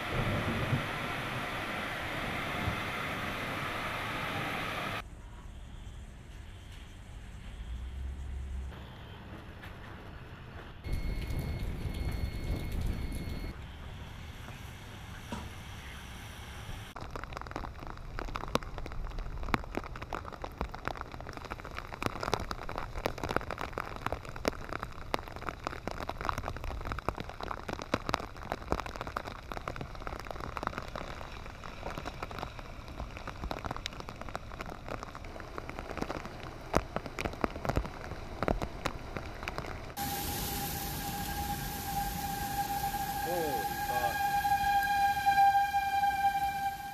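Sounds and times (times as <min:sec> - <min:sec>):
steady rain falling: 0:00.0 - 0:05.0, 0:10.8 - 0:46.9.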